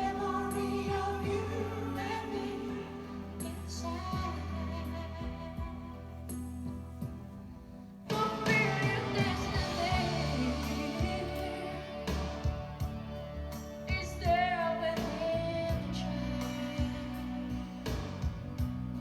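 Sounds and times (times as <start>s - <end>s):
person singing slow melody: 0.0s - 19.0s.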